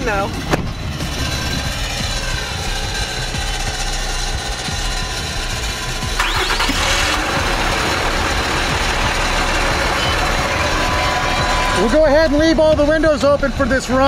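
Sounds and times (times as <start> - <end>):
low engine rumble: 0.0 - 14.0
rising engine whine: 0.0 - 14.0
truck engine running: 0.0 - 14.0.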